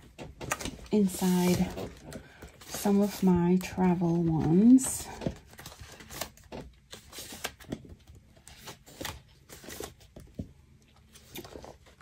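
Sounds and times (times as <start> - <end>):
papers rustling: 0.0 - 12.0.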